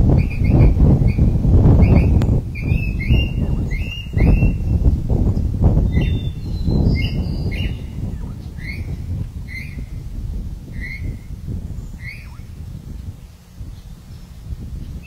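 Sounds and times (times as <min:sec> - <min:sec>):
uneven low rumble: 0:00.0 - 0:15.0
bird chirping: 0:00.1 - 0:10.0, 0:10.7 - 0:15.0.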